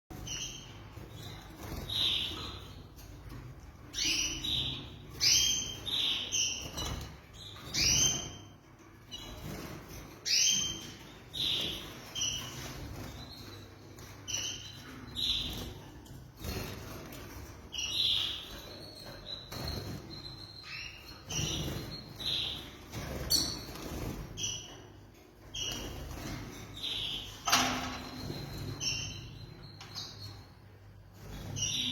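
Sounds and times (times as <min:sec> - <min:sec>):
canaries chirping: 0:00.1 - 0:31.9.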